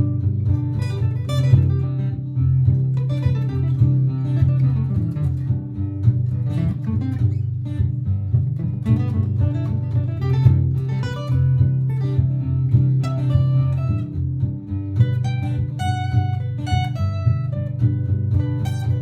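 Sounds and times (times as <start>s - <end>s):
acoustic guitar plucking and strumming: 0.0s - 19.0s
looped acoustic guitar layer: 0.0s - 19.0s.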